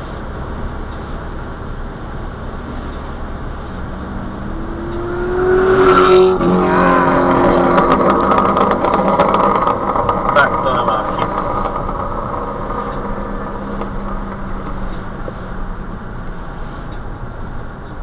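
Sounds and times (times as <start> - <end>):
car engine accelerating hard: 0.0 - 18.0
road and tyre noise: 0.0 - 18.0.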